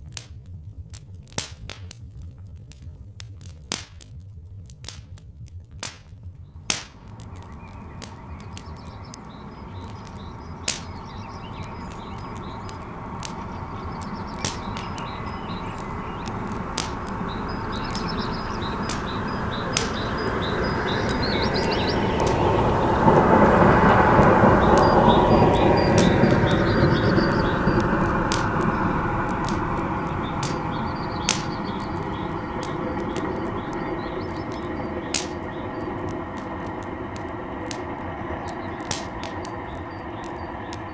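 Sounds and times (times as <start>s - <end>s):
wood fire crackling and popping: 0.0s - 40.9s
low rumble: 6.4s - 40.9s
birds chirping: 6.5s - 40.9s
broad rushing rumble: 6.7s - 40.9s.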